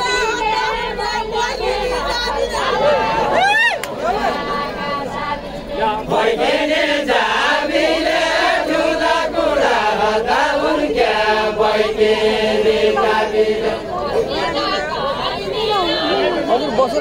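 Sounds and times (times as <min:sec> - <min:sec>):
group singing in unison: 0:00.0 - 0:16.9.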